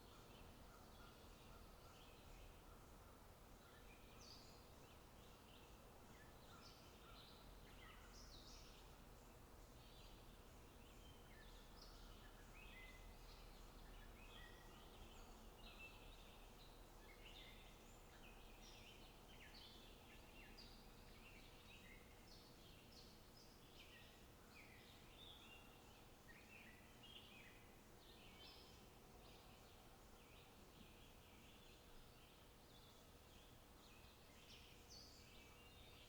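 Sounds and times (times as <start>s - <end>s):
faint low background noise: 0.0s - 36.0s
small birds chirping and twittering: 0.0s - 36.0s.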